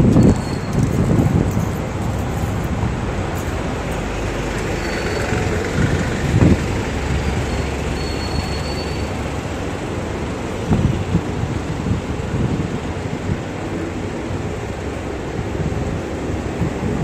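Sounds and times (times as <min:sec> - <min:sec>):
bus diesel engine rumbling: 0:00.0 - 0:17.0
hum of passing cars: 0:00.0 - 0:17.0.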